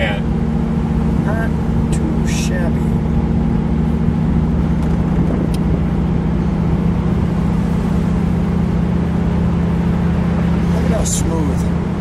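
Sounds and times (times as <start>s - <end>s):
car engine rumbling: 0.0s - 12.0s
road noise: 0.0s - 12.0s.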